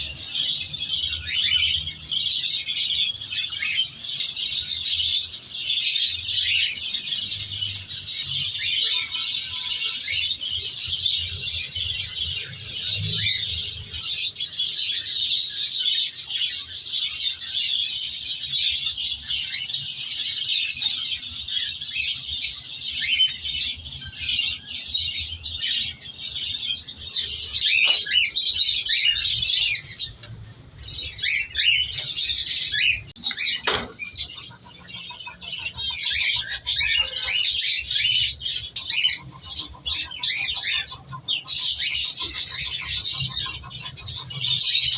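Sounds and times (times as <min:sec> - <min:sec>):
cockatiels chirping: 0:00.0 - 0:44.9.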